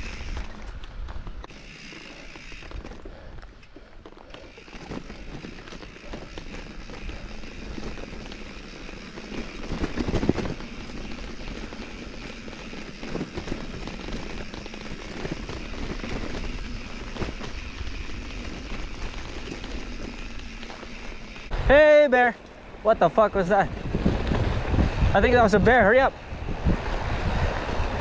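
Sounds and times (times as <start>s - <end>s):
bike tyre and wind noise: 0.0s - 28.0s.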